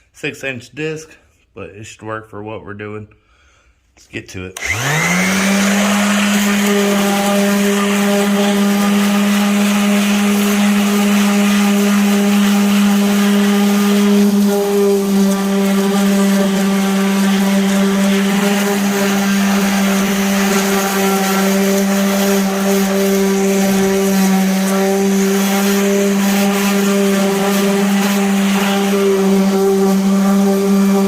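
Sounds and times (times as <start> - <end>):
power sander running: 4.6 - 31.0.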